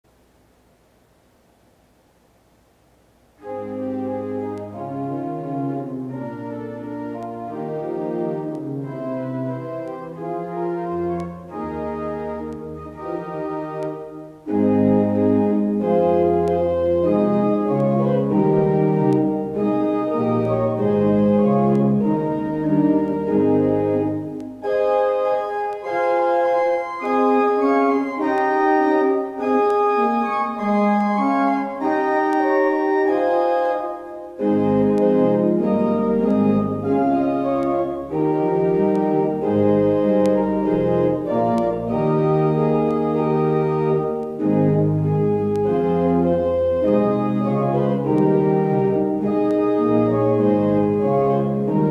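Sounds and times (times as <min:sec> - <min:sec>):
organ chords: 0:03.1 - 0:51.9.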